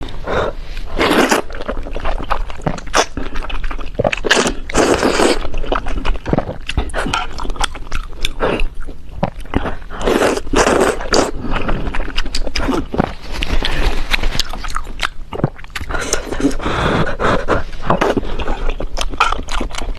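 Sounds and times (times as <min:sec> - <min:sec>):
chewing and crunching food: 0:00.6 - 0:19.9.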